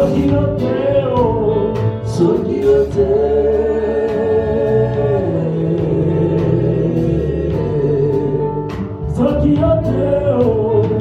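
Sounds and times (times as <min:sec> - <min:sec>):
instrumental accompaniment: 0:00.0 - 0:11.0
person singing gospel: 0:00.0 - 0:11.0.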